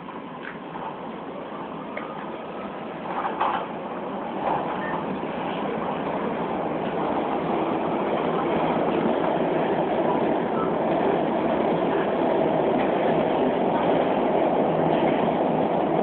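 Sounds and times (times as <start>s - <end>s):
subway train rumbling and hissing: 0.0s - 16.0s.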